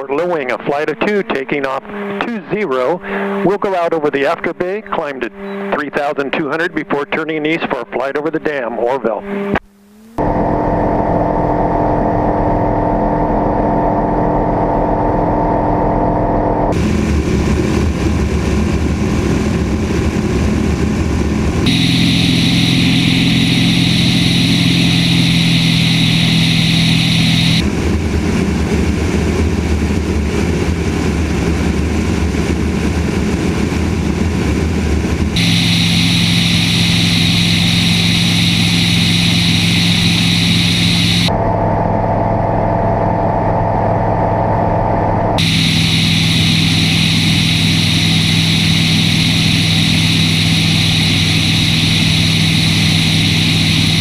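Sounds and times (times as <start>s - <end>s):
airplane propeller engine drone: 0.0s - 54.0s.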